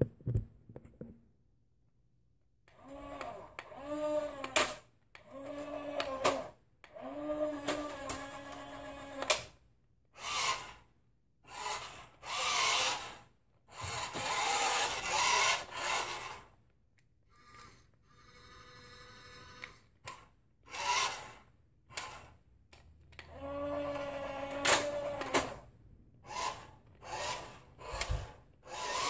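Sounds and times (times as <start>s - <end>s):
toy car motor and gears whining: 2.7s - 9.6s, 10.2s - 16.6s, 17.3s - 29.0s.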